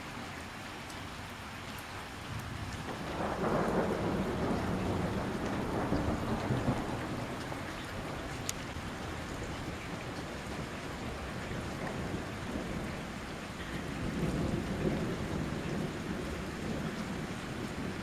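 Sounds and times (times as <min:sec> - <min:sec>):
steady rain hiss: 0:00.0 - 0:18.0
thunder rumbling: 0:02.3 - 0:18.0.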